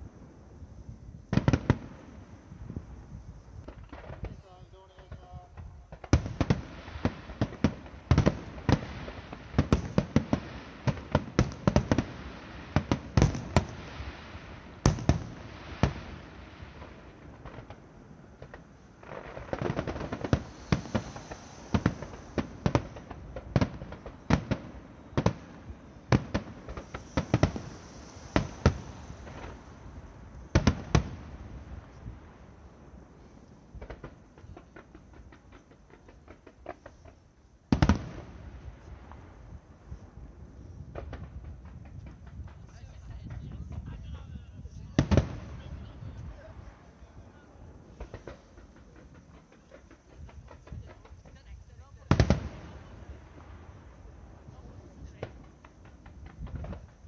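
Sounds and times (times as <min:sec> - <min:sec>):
fireworks bursting with bangs: 0:00.0 - 0:57.0.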